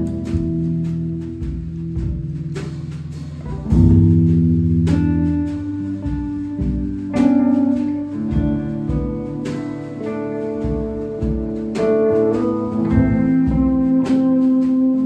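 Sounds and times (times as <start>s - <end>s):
low bass notes: 0.0s - 15.0s
plucked guitar: 0.0s - 15.0s.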